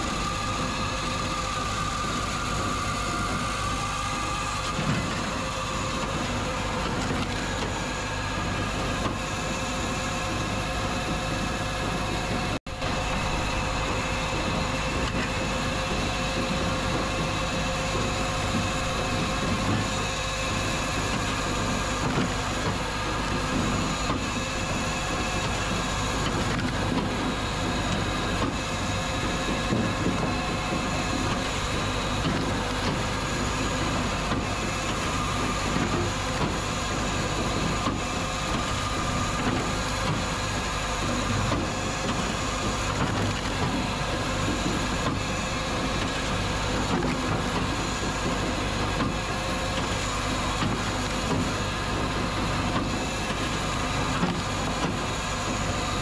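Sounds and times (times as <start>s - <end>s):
machinery working: 0.0s - 56.0s
tractor engine running: 0.0s - 56.0s.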